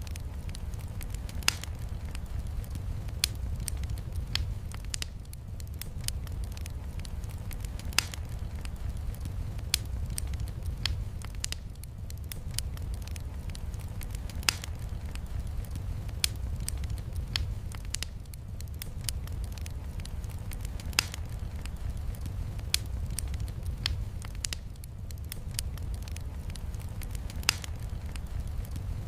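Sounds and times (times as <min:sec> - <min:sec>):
steady low rumble: 0:00.0 - 0:29.0
wood fire crackling and popping: 0:00.0 - 0:29.0.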